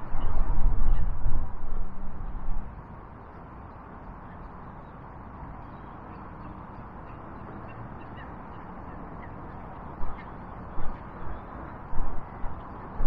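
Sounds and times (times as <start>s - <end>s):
steady outdoor background rush: 0.0s - 13.0s.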